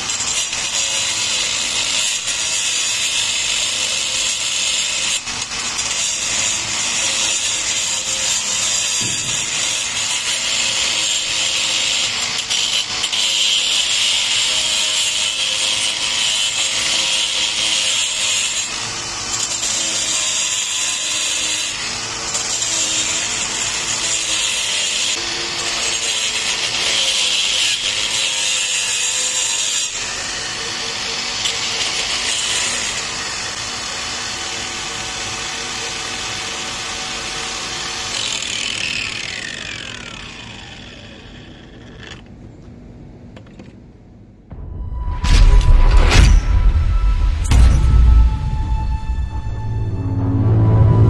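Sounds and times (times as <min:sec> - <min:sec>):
angle grinder cutting brick: 0:00.0 - 0:42.2.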